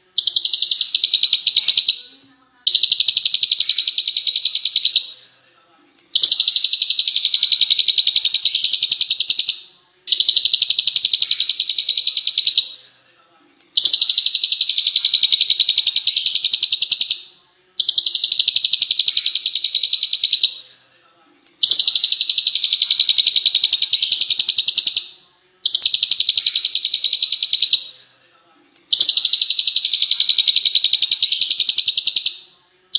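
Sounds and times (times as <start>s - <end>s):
recorded songbird trill: 0.0s - 5.2s, 6.1s - 12.9s, 13.8s - 20.6s, 21.6s - 28.0s, 28.9s - 32.5s.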